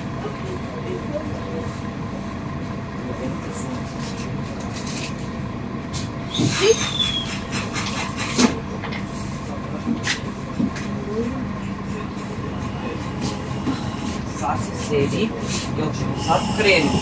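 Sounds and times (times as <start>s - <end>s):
vehicle humming: 0.0s - 17.0s.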